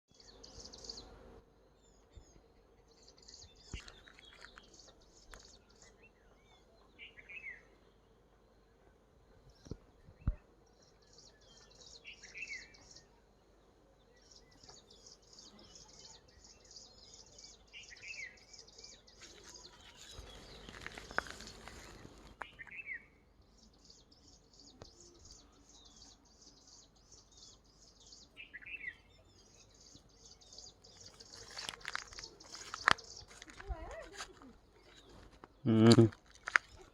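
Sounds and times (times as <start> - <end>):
bird chirp: 0.1 - 13.2, 14.0 - 36.9.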